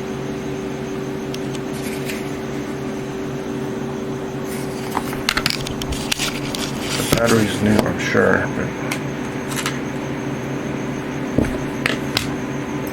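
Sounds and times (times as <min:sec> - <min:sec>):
fan hum: 0:00.0 - 0:12.9.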